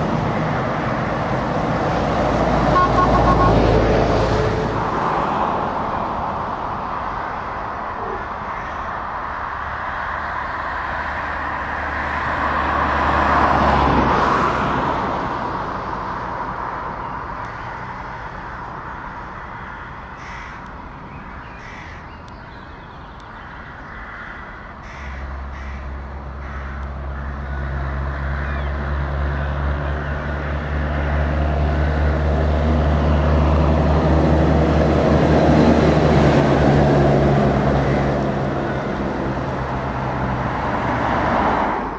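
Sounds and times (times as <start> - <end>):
trucks driving past rumbling: 0.0 - 41.9.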